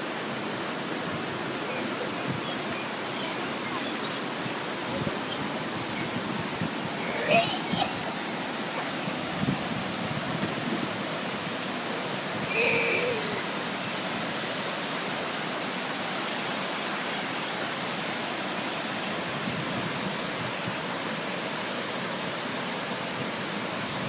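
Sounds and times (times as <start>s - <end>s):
waterfall rushing into pool: 0.0s - 24.0s.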